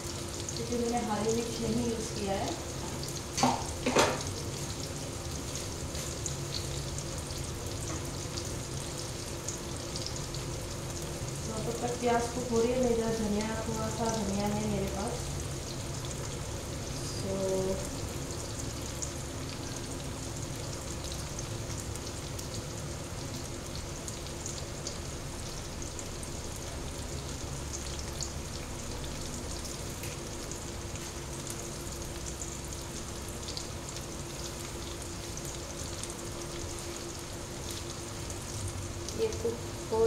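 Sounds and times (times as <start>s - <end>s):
food frying in hot oil: 0.0s - 40.0s.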